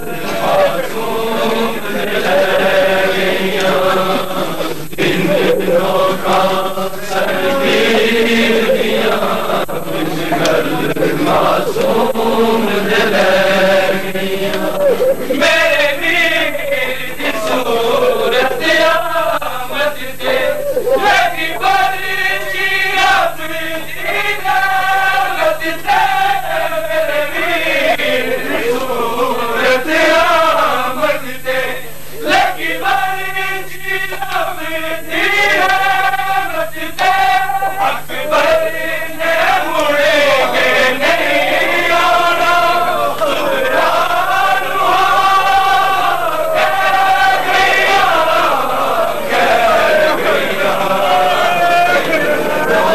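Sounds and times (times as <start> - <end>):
men chanting a lament: 0.0 - 52.9.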